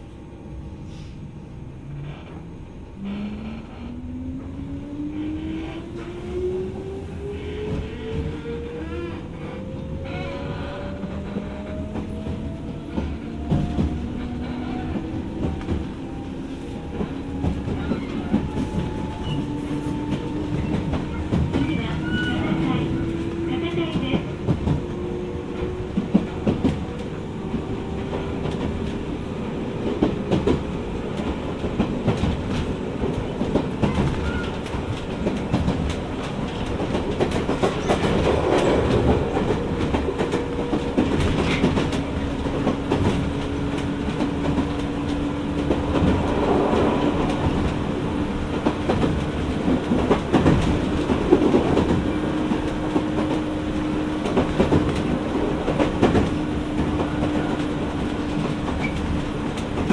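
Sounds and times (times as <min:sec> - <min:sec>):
train rumble inside car: 0:00.0 - 0:59.9.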